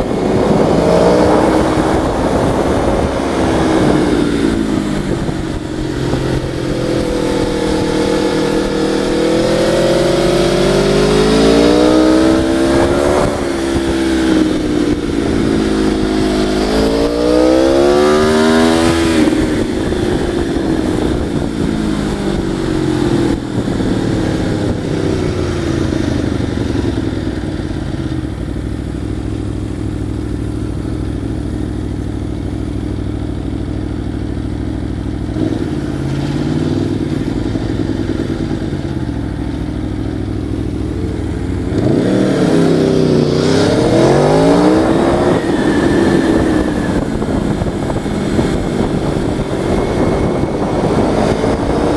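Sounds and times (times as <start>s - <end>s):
motorcycle engine revving: 0.0s - 51.9s
wind noise: 0.0s - 51.9s.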